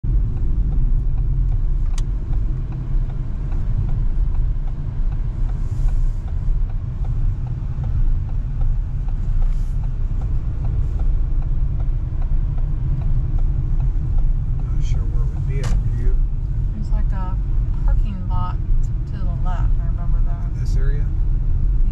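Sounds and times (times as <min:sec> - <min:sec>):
car driving rumble: 0:00.0 - 0:21.9.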